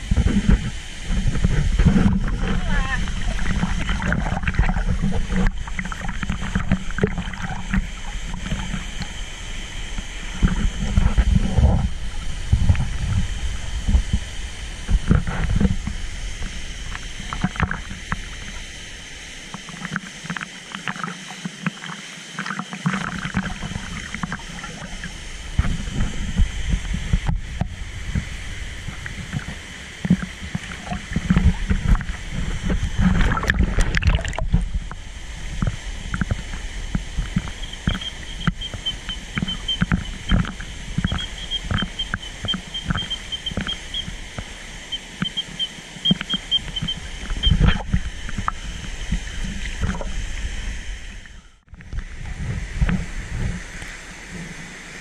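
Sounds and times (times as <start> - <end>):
falling water rumble: 0.0 - 55.0
water sloshing and splashing: 0.0 - 55.0.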